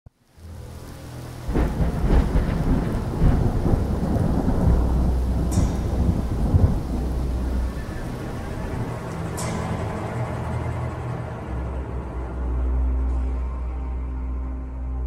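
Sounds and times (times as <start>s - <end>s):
steady rain: 0.1s - 15.0s
thunder rumbling: 0.4s - 12.6s.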